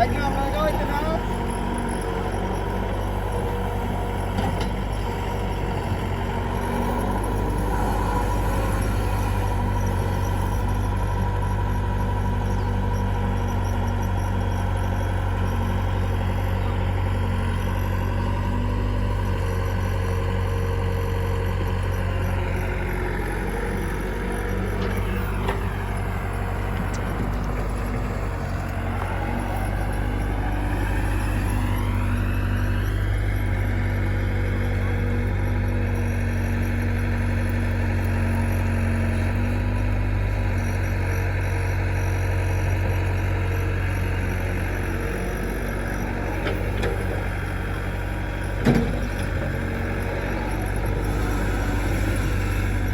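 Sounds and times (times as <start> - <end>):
diesel engines running: 0.0 - 52.9.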